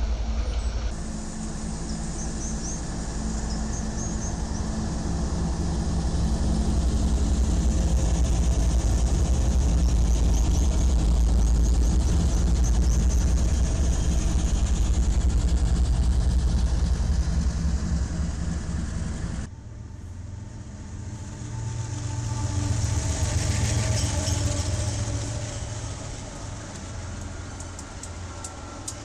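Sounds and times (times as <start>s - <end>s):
diesel locomotive engine drone: 0.0s - 29.0s
wheels hissing on rails: 0.0s - 29.0s.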